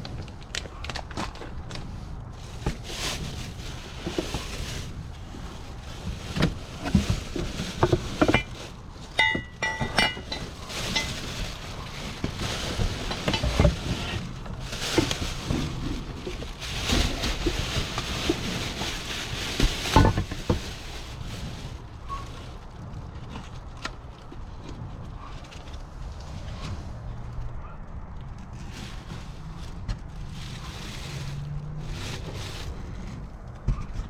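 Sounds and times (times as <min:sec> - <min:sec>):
rustling and clattering objects: 0:00.0 - 0:34.0.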